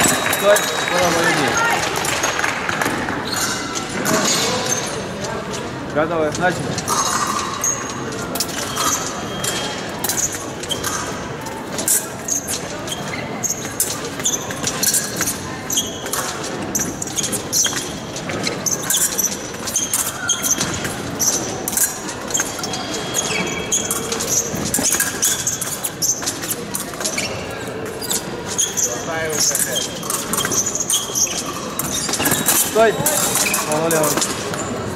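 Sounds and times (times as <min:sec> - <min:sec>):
shoes squeaking: 0:00.0 - 0:34.9.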